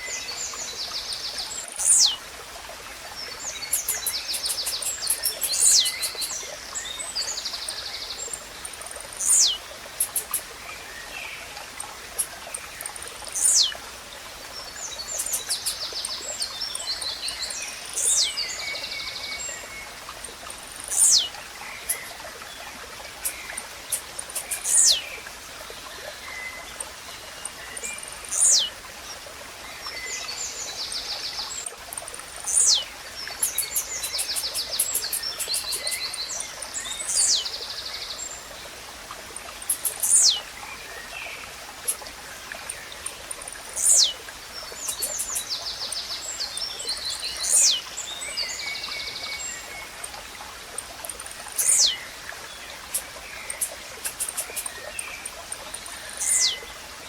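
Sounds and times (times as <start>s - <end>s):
small birds chirping and trilling: 0.0s - 2.2s, 3.1s - 13.9s, 14.5s - 29.2s, 29.8s - 38.7s, 39.5s - 56.8s.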